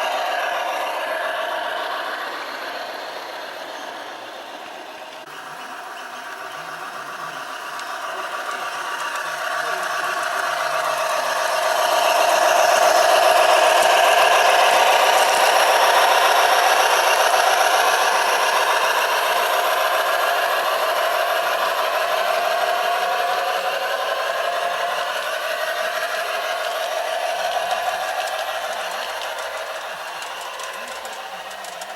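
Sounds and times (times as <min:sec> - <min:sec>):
model train wheels clicking on rails: 0:00.0 - 0:31.9.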